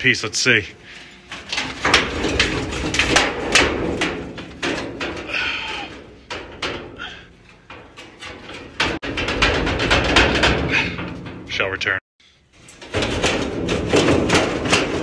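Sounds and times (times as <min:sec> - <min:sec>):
metal panel clattering and scraping: 0:00.0 - 0:15.0.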